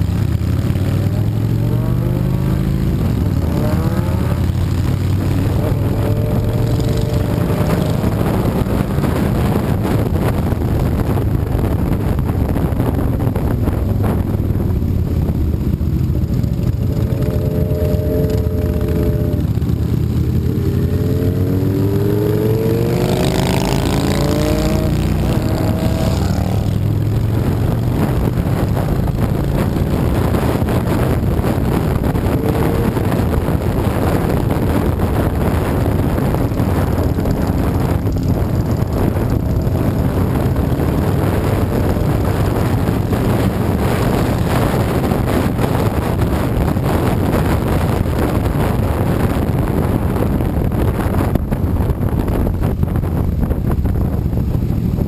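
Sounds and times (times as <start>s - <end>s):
motorcycle engine accelerating: 0.0s - 55.0s
wind noise on microphone: 0.0s - 55.0s.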